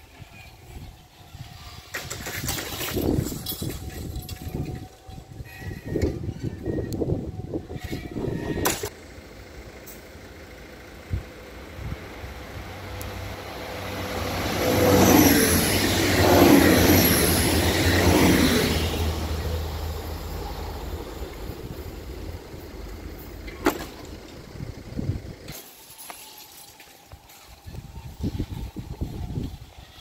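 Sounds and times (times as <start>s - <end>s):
electric train passing: 0.0s - 30.0s.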